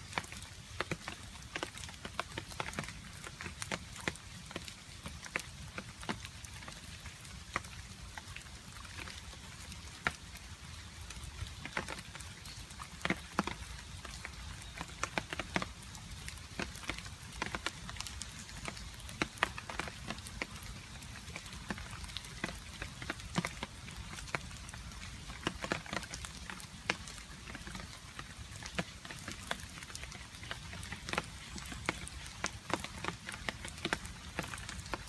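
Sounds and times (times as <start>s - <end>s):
light rain hiss: 0.0s - 35.0s
water dripping: 0.0s - 35.0s.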